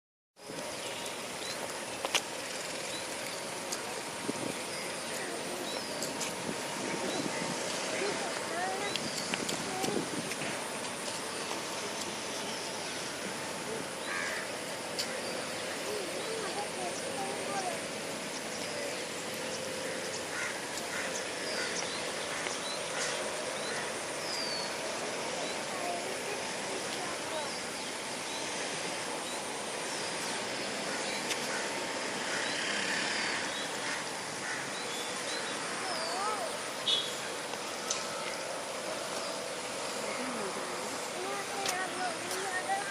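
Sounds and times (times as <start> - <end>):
steady hiss: 0.4 - 42.9
steady noise bed: 0.4 - 42.9.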